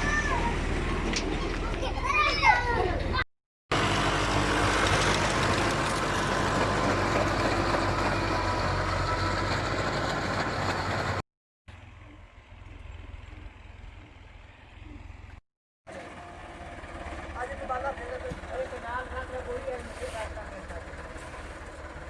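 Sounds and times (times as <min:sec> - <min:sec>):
tractor diesel engine running: 0:03.7 - 0:22.0.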